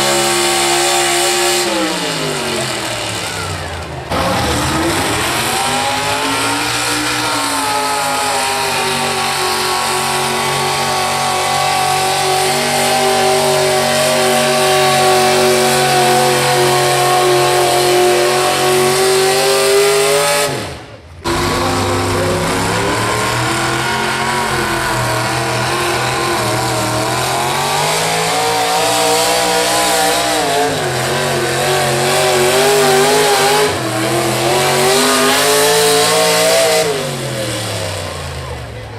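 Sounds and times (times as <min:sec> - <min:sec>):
truck engine at high revs: 0:00.0 - 0:38.9.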